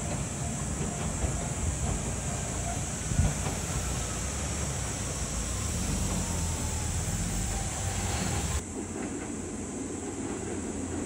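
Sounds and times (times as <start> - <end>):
railcar rumbling across bridge: 0.0 - 11.0.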